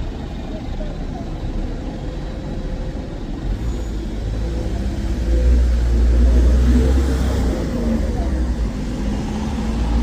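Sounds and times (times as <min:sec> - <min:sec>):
bus engine accelerating: 0:00.0 - 0:10.0.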